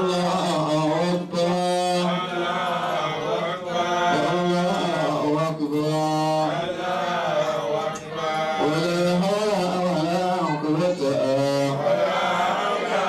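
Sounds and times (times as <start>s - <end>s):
man chanting into a microphone: 0.0s - 12.1s.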